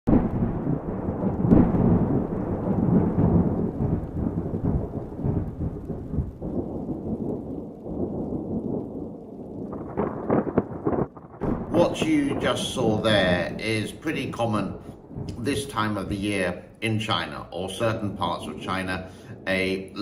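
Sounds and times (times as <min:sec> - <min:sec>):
lightning crack: 0:00.1 - 0:20.0
rolling thunder: 0:00.1 - 0:20.0.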